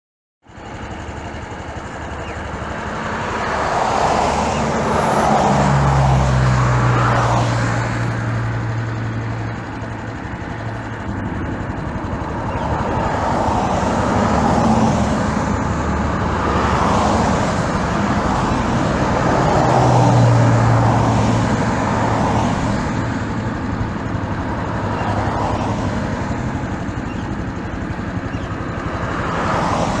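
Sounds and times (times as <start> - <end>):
heavy vehicle engine hum: 0.4 - 30.0
cars passing: 0.5 - 30.0.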